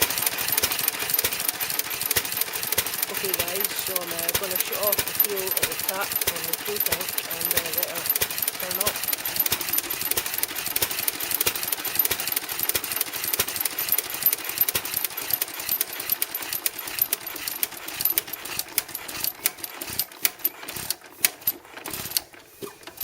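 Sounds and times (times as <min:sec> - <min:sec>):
stationary engine clattering: 0:00.0 - 0:23.0.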